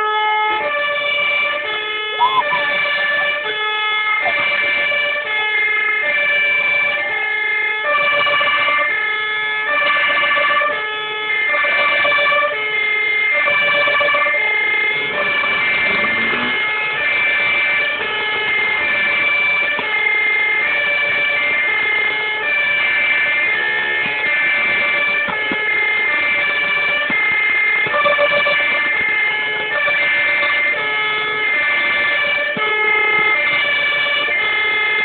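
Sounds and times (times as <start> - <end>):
siren-like tones tune: 0.2 - 7.2, 11.4 - 35.0.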